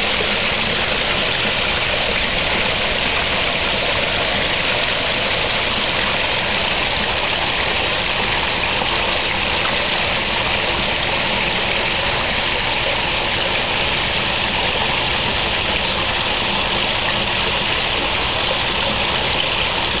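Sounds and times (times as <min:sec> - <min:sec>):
falling splashing water: 0:00.0 - 0:20.0.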